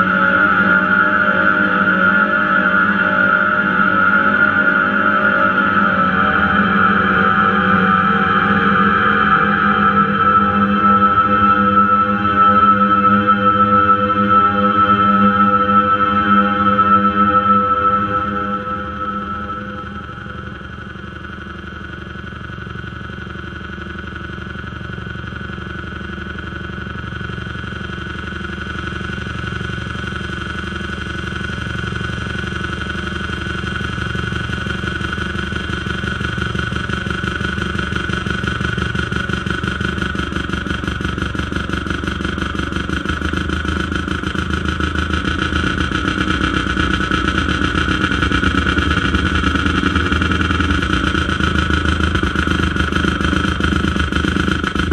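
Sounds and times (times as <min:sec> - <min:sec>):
harsh noise electronic drone: 0:00.0 - 0:54.9.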